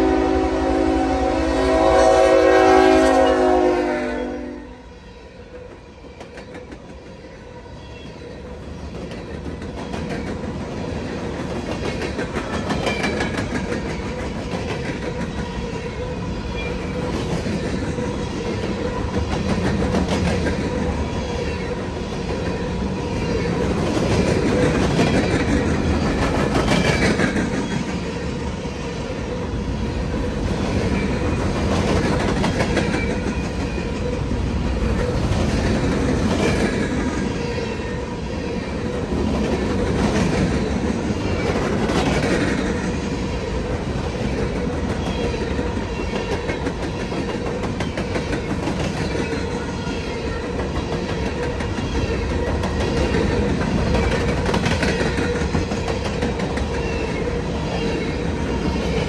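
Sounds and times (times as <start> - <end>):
train wheels rumbling over rails: 0.0 - 59.0.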